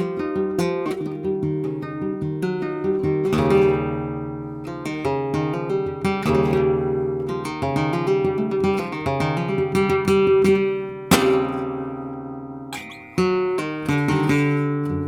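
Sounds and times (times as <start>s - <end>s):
flamenco guitar playing: 0.0s - 15.0s.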